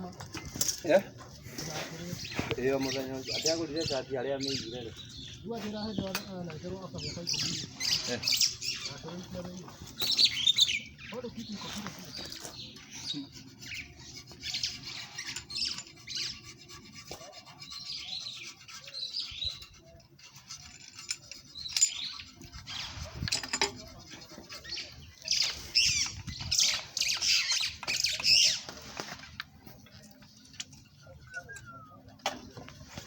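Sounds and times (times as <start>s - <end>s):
birds chirping and squawking: 0.0s - 33.0s.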